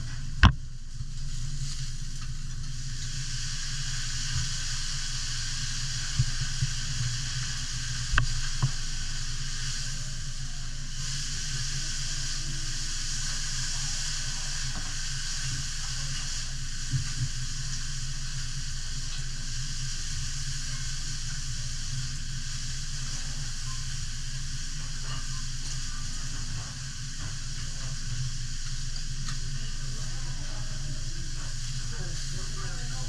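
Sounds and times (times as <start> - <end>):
low steady hum: 0.0 - 33.0
steak sizzling on a griddle: 0.1 - 33.0.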